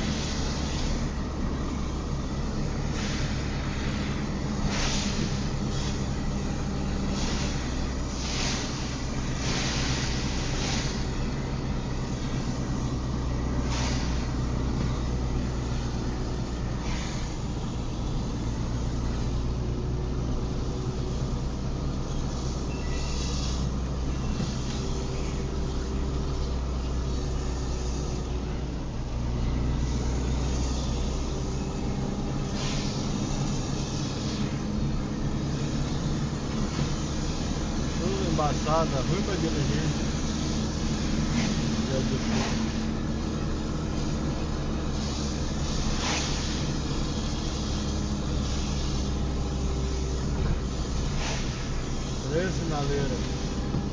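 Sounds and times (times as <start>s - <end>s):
engine and tyre drone on wet road: 0.0s - 53.9s.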